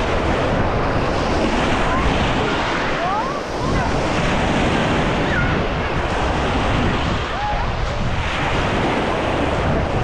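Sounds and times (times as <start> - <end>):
sea waves washing onto beach: 0.0 - 10.0
wind buffeting microphone: 0.0 - 10.0.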